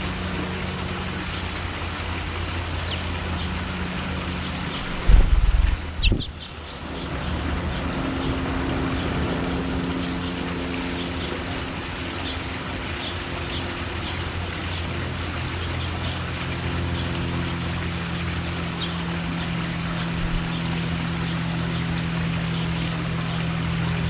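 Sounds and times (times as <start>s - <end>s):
steady engine hum: 0.0s - 24.0s.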